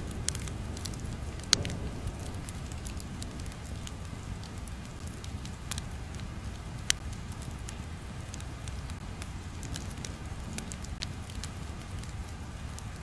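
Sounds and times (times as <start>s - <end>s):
crackling pops and snaps: 0.0s - 13.0s
low steady rumble: 0.0s - 13.0s.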